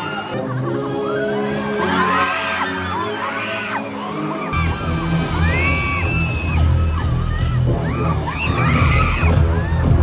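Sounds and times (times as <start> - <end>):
fans screaming and cheering: 0.0 - 10.0.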